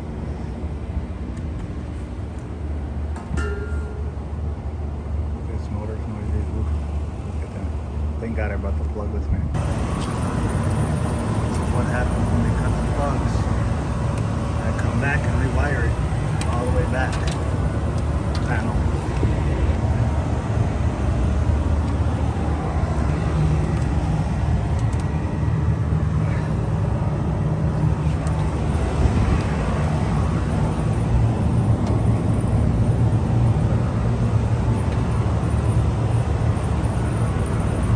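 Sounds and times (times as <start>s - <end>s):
rooftop unit low mechanical hum: 0.0s - 37.9s.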